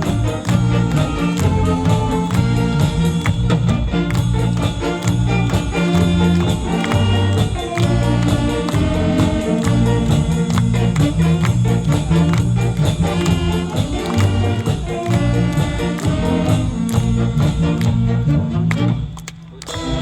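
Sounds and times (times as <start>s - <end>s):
saxophone big band playing: 0.0s - 20.0s.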